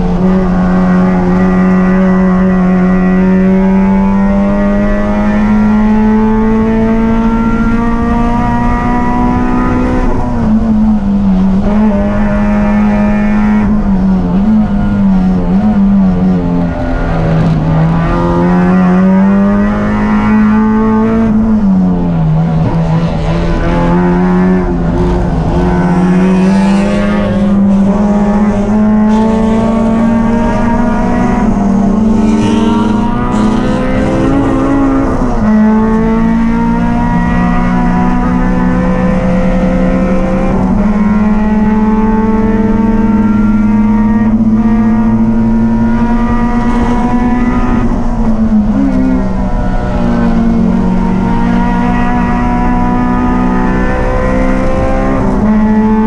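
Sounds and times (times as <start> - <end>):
race car engine at high revs: 0.0 - 56.0
tyre and road noise: 0.0 - 56.0.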